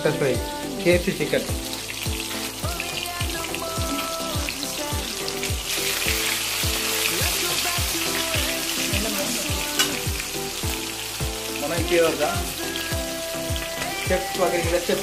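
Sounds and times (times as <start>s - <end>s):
background music with steady beat: 0.0s - 15.0s
chicken sizzling in hot oil: 0.0s - 15.0s.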